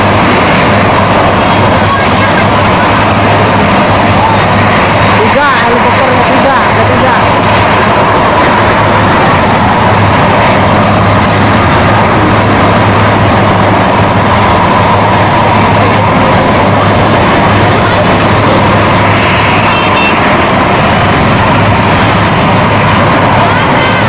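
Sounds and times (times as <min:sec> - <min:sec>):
helicopter turbine and rotor: 0:00.0 - 0:24.0.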